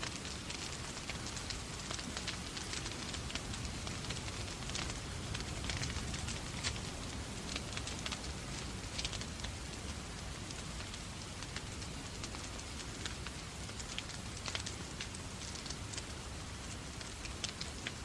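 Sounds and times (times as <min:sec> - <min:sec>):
rain falling: 0:00.0 - 0:18.0
wood fire crackling and popping: 0:00.0 - 0:18.0.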